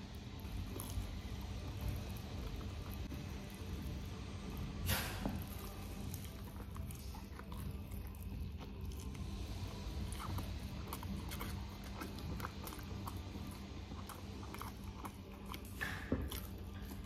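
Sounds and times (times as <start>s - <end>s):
close chewing with crunches: 0.0s - 17.0s
steady low hum: 0.0s - 17.0s.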